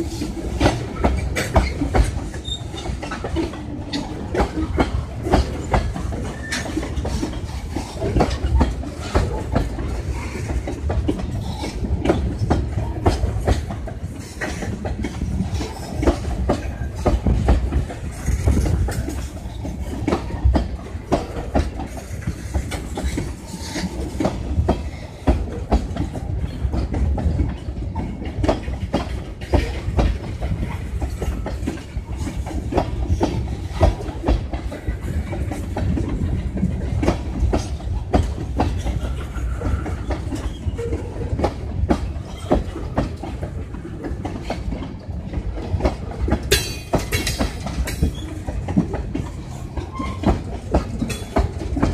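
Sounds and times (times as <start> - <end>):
train wheels clacking: 0.0 - 51.9.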